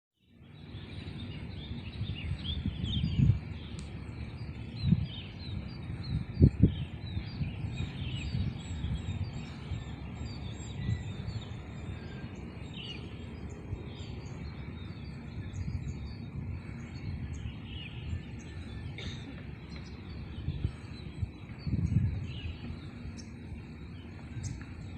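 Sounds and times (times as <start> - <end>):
low rumbling background noise: 0.2 - 24.9
small birds chirping: 0.2 - 24.9.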